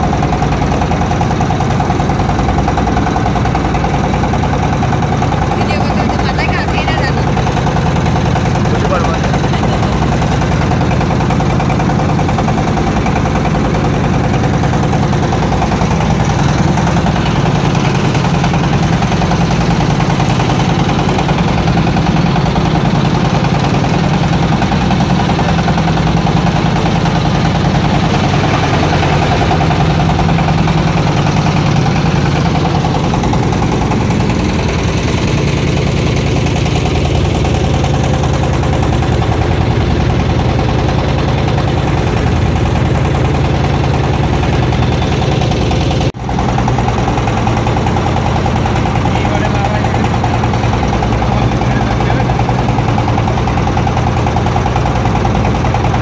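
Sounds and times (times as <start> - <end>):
motorboat engine droning: 0.0 - 56.0.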